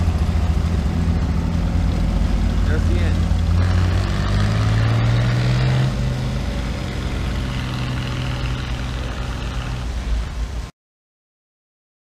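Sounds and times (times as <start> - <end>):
vehicle engines humming: 0.0 - 10.7.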